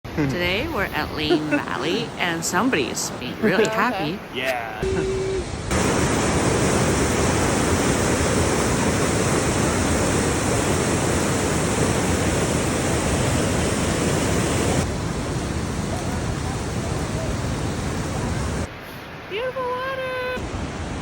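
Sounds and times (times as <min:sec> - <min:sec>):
waterfall rushing: 0:00.5 - 0:18.7.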